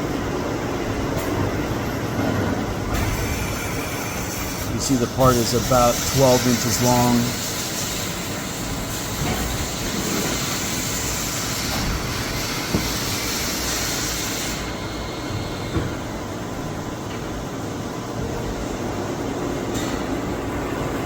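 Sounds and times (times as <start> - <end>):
lathe whirring: 1.6 - 19.8.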